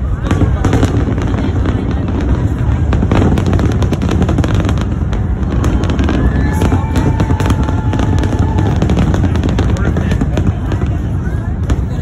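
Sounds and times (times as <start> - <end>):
fireworks booming: 0.0 - 12.0
fireworks sharp cracks: 0.0 - 12.0.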